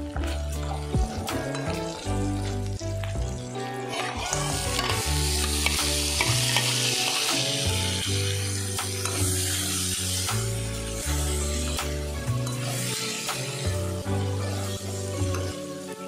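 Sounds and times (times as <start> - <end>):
background music: 0.0 - 16.0
chicken sizzling in hot oil: 0.0 - 16.0.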